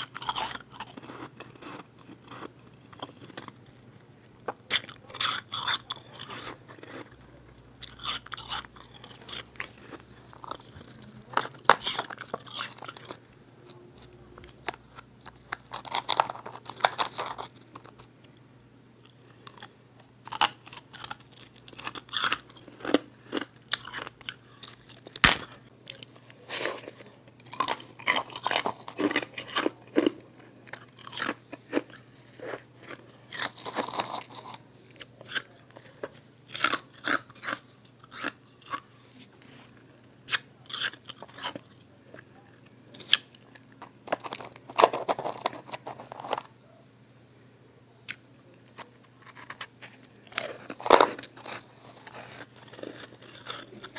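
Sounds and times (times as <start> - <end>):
chewing crunchy ice: 0.0 - 18.4, 19.0 - 39.0, 39.7 - 46.6, 48.1 - 53.9.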